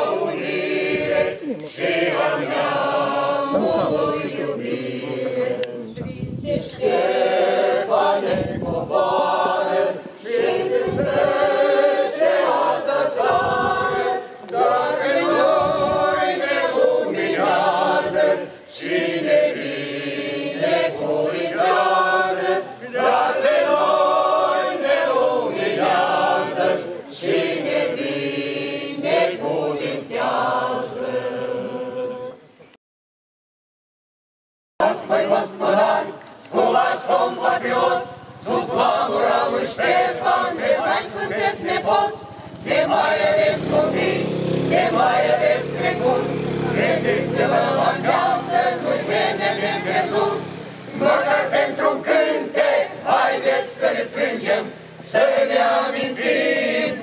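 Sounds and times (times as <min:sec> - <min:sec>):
choir singing unaccompanied: 0:00.0 - 0:32.7, 0:34.8 - 0:57.0.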